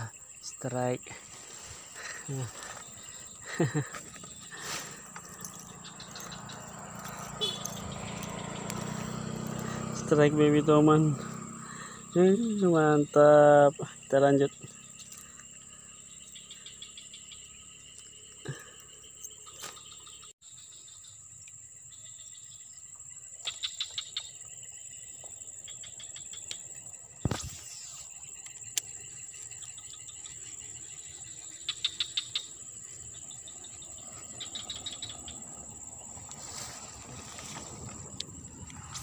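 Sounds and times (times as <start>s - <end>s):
high-pitched insect drone: 0.0s - 39.0s
rapid insect chirping: 0.0s - 39.0s.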